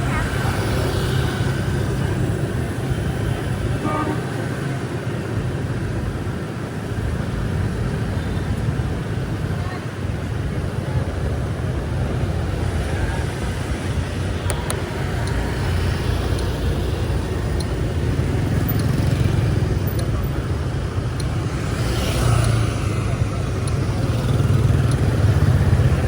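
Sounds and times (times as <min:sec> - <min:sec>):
motorbikes and cars passing: 0:00.0 - 0:26.0.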